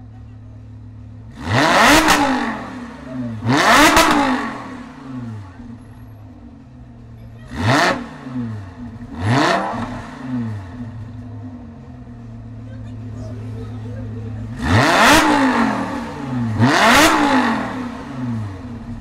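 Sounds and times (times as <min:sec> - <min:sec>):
car engine idling: 0:00.0 - 0:19.0
sports car engine revving: 0:00.0 - 0:19.0.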